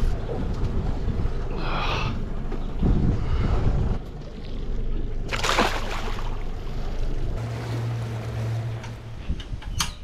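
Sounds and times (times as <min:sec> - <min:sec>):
water rushing along hull: 0:00.0 - 0:09.4
outboard engine hum: 0:00.0 - 0:09.8.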